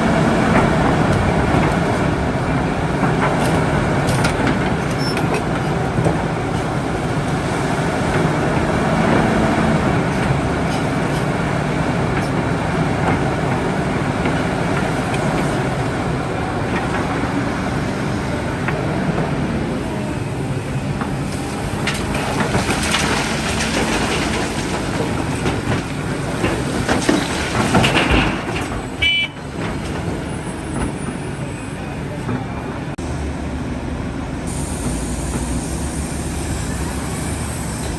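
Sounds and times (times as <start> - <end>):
heavy diesel machinery engine: 0.0 - 37.9.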